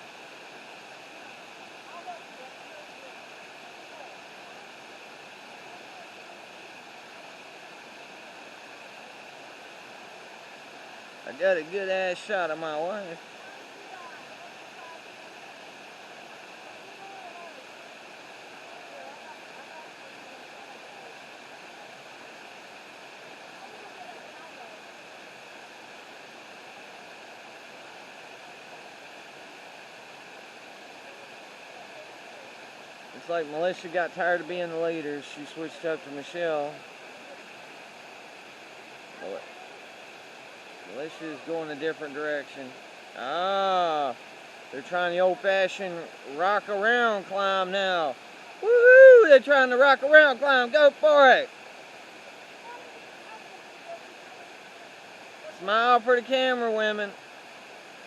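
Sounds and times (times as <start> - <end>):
river water rushing: 0.0 - 58.0
waterfall: 0.0 - 58.0.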